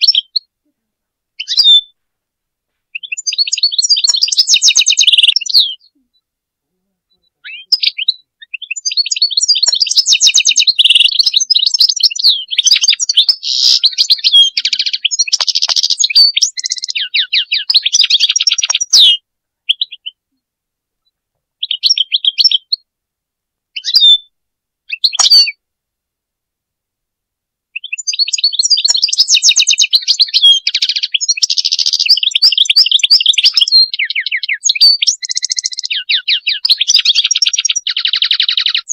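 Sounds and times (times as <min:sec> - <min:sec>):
goldfinch singing: 0:00.0 - 0:00.5, 0:01.4 - 0:02.0, 0:02.9 - 0:06.2, 0:07.1 - 0:20.2, 0:21.6 - 0:22.8, 0:23.8 - 0:24.3, 0:24.9 - 0:25.6, 0:27.8 - 0:38.9.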